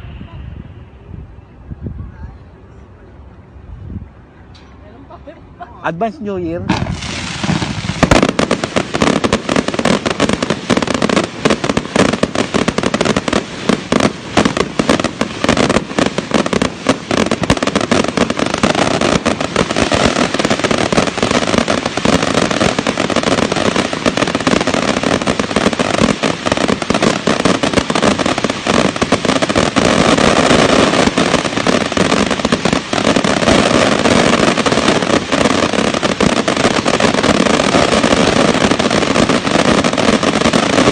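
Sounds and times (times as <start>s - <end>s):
fireworks bangs and crackle: 6.0s - 40.9s.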